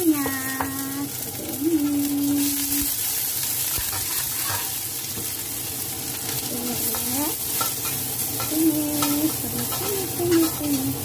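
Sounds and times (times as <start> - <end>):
food sizzling in hot oil: 0.0 - 11.0
spatula stirring in a wok: 1.1 - 11.0.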